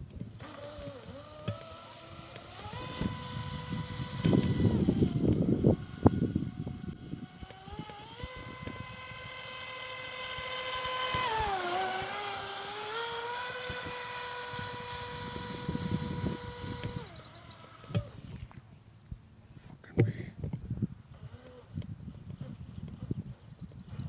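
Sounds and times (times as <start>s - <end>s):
electric boat motor whining: 0.0s - 18.6s, 21.1s - 23.2s.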